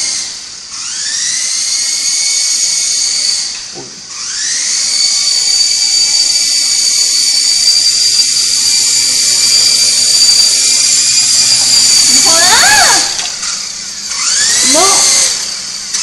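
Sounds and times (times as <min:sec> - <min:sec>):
toy helicopter motors whining: 0:00.0 - 0:16.0.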